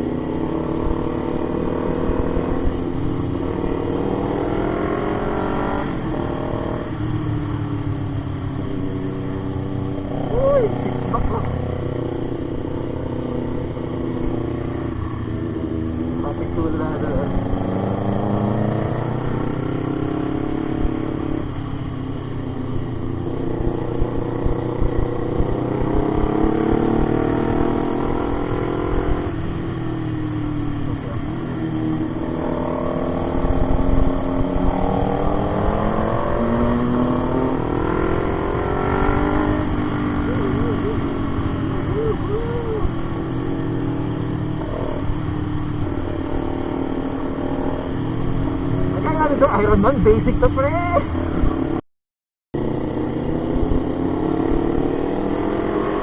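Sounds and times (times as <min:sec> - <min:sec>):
motorcycle engine accelerating: 0:00.0 - 0:51.8, 0:52.5 - 0:56.0.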